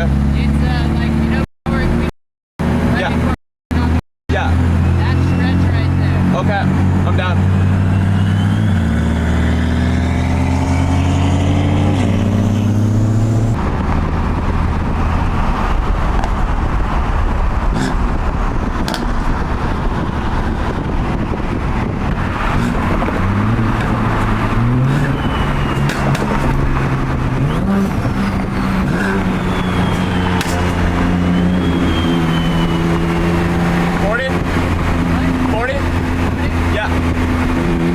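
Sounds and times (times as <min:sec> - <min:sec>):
car engine: 0:00.0 - 0:37.9
road noise: 0:00.0 - 0:37.9.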